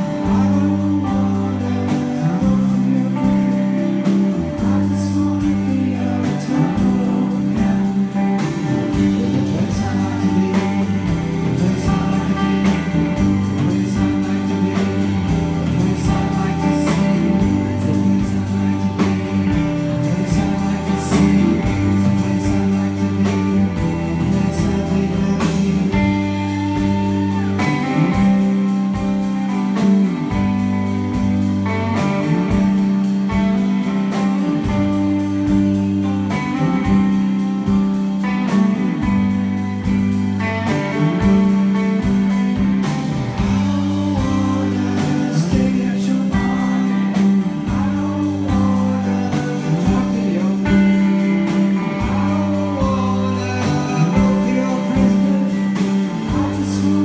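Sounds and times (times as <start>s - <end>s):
drums: 0.0s - 57.0s
electric guitar: 0.0s - 57.0s
man singing: 0.0s - 57.0s.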